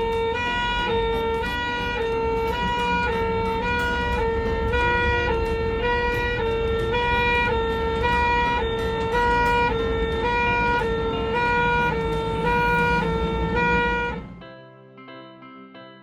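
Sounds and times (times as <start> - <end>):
two-tone ambulance siren: 0.0 - 14.4.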